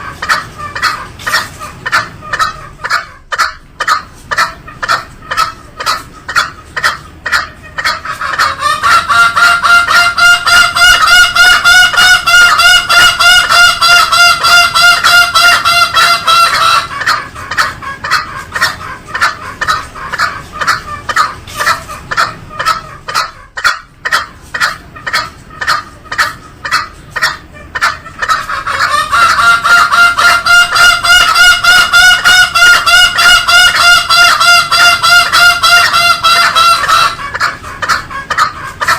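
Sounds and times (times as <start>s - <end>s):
junglefowl calling in rapid pulses: 0.0s - 38.9s.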